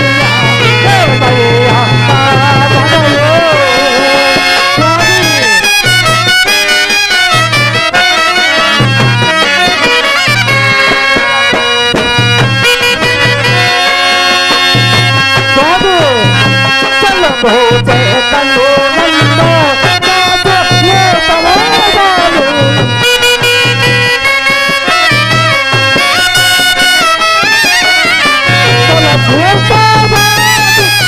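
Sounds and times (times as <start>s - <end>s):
low drum beat: 0.0s - 6.2s, 9.0s - 25.9s, 28.2s - 31.0s
sustained reedy chords: 0.0s - 31.0s
wavering melody line: 0.0s - 31.0s.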